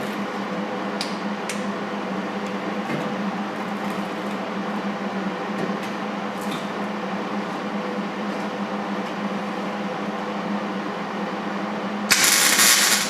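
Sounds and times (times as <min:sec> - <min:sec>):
fan-driven machine humming: 0:00.0 - 0:13.0.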